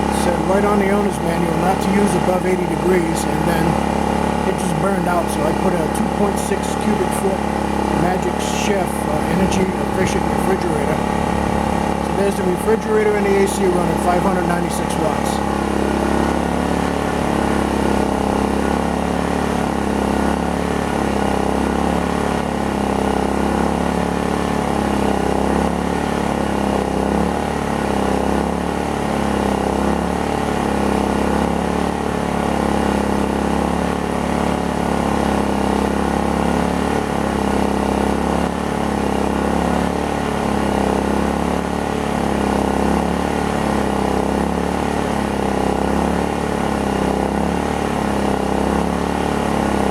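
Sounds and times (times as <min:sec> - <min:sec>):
generator engine running: 0:00.0 - 0:49.9.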